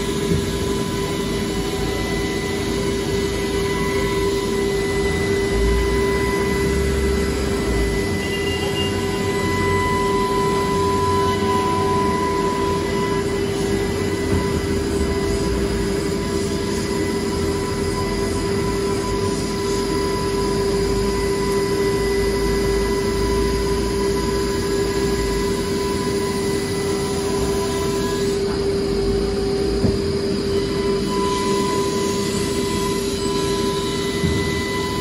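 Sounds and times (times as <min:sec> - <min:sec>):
wood router machine running: 0:00.0 - 0:35.0.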